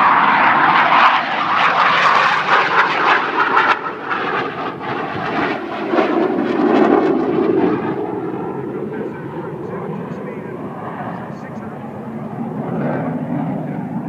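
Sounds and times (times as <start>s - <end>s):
jet engines flying by: 0.0s - 14.0s.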